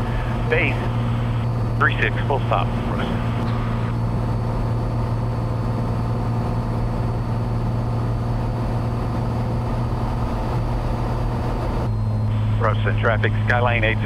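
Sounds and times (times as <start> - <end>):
airplane propeller engine droning: 0.0 - 14.0.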